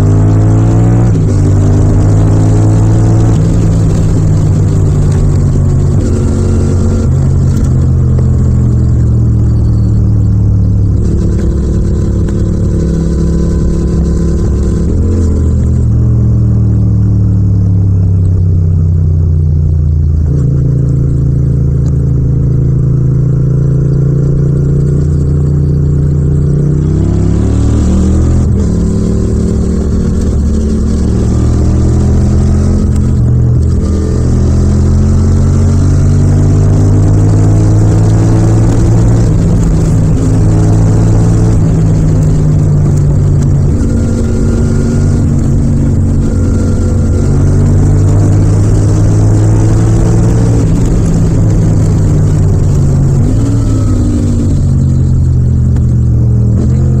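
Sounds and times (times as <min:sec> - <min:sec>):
motorcycle engine at speed: 0:00.0 - 0:57.0.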